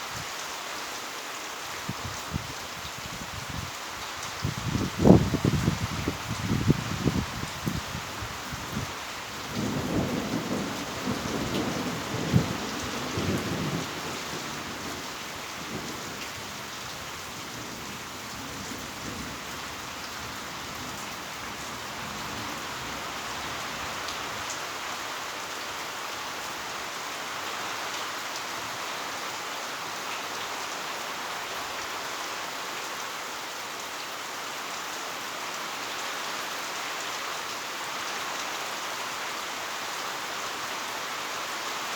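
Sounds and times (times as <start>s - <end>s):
heavy rain hiss: 0.0s - 41.9s.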